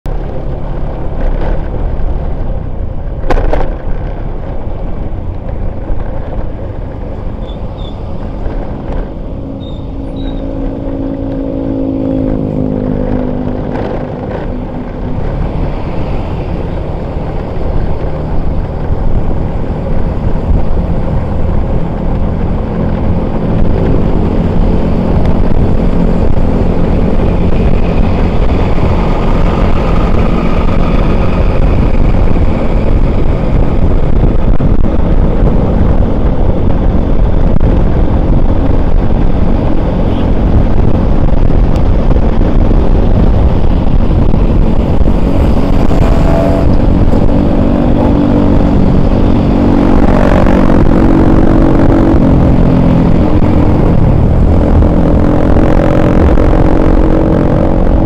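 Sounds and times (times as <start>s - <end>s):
motorcycle traffic rumble: 0.0s - 58.0s
motorcycle engine revving up: 6.4s - 58.0s.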